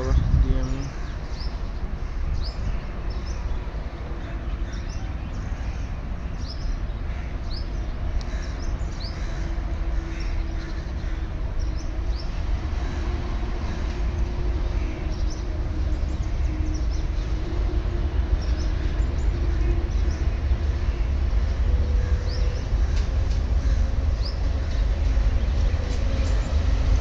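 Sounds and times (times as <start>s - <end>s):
birds chirping: 0.0s - 27.0s
train rumbling and humming: 0.0s - 27.0s.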